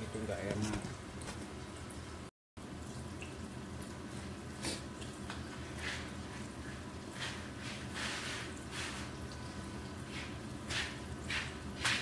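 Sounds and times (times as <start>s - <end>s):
food frying in hot oil: 1.4s - 12.0s.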